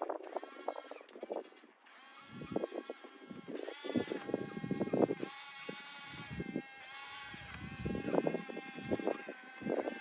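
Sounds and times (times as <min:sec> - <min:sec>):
small electric motor whining: 0:00.0 - 0:10.0.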